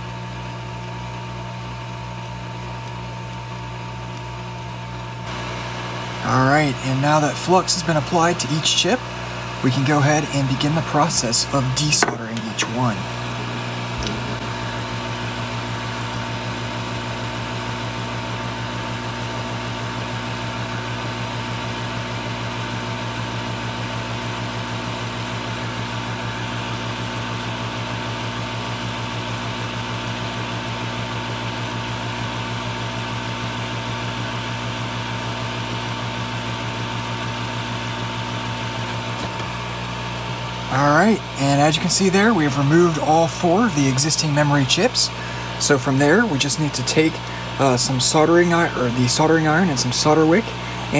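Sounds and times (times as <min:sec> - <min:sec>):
hot air gun fan whir: 0:00.0 - 0:50.9.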